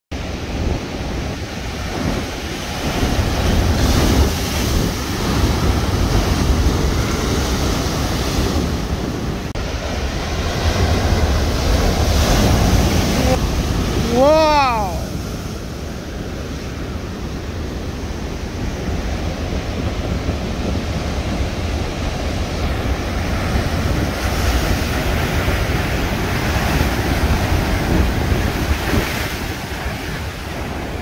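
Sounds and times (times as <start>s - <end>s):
surf breaking on beach: 0.2s - 31.0s
wind buffeting microphone: 0.2s - 31.0s.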